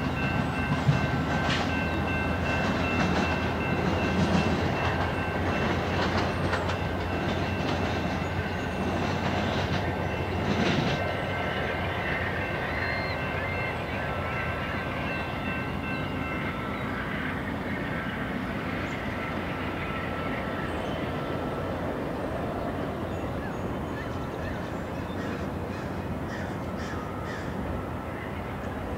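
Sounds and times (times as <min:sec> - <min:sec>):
diesel locomotives approaching: 0:00.0 - 0:28.9
trains rumbling on rails: 0:00.0 - 0:28.9.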